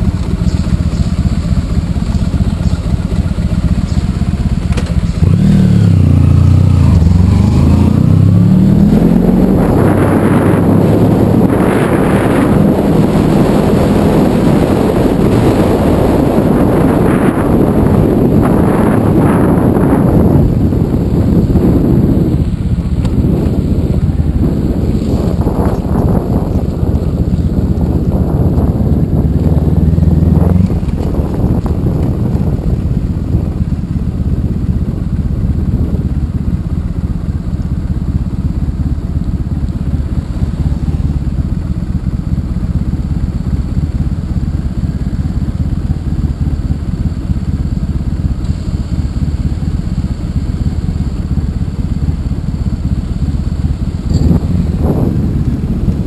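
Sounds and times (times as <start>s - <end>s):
motorcycle engine: 0.0s - 56.0s
wind and road noise: 0.0s - 56.0s.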